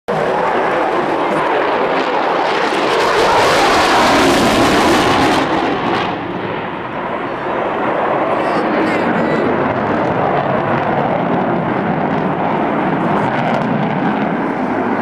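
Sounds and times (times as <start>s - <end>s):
jet engine roar: 0.1s - 15.0s.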